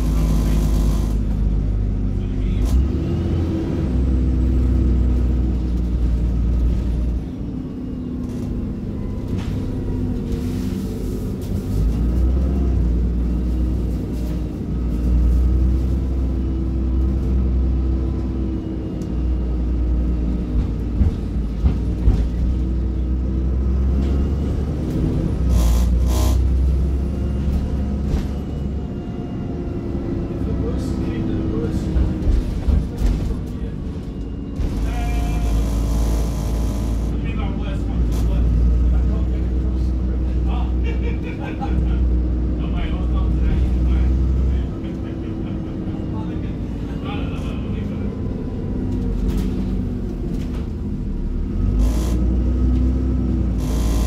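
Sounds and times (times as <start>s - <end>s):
bus diesel engine rumble: 0.0s - 54.0s.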